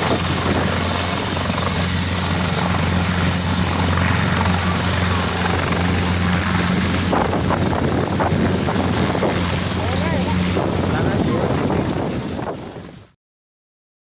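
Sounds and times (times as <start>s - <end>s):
helicopter rotor and engine: 0.0s - 13.2s.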